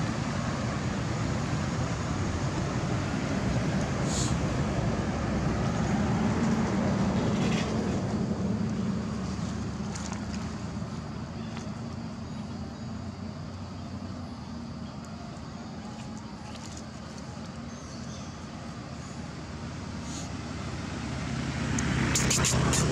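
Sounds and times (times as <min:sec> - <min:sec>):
vehicle engine humming: 0:00.0 - 0:22.9.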